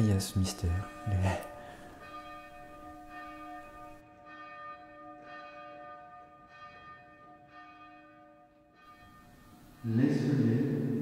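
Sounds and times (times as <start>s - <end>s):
church bell ringing slowly: 0.0s - 11.0s.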